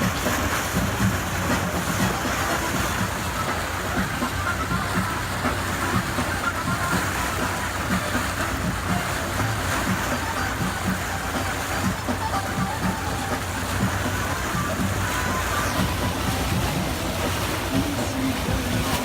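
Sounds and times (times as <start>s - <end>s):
boat engine humming: 0.0s - 19.0s
water rushing: 0.0s - 19.0s
wind: 0.0s - 19.0s.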